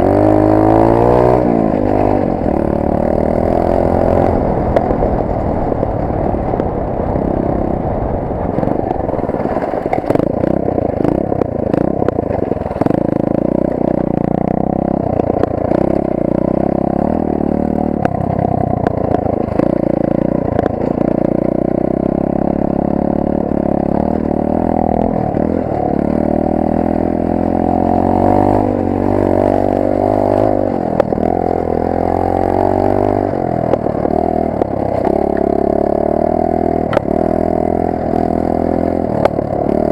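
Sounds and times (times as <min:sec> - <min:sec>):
knocks and rattles from bike: 0:00.0 - 0:39.9
motorcycle engine revving: 0:00.0 - 0:39.9.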